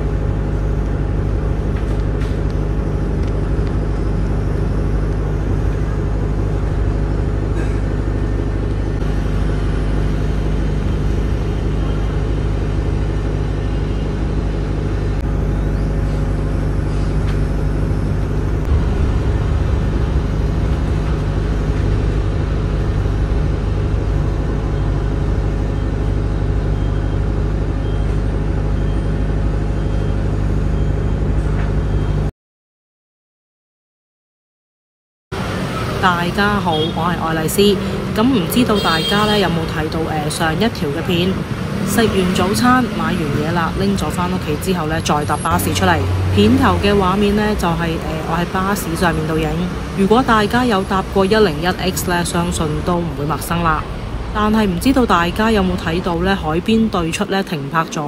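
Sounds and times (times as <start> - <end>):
bus engine hum: 0.0 - 32.3, 35.4 - 58.0
road noise: 0.0 - 32.3, 35.3 - 58.0.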